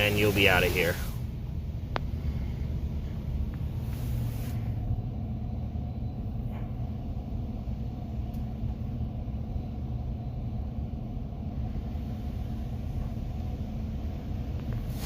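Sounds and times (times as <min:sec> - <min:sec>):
low rumble with faint hum: 0:00.0 - 0:15.0.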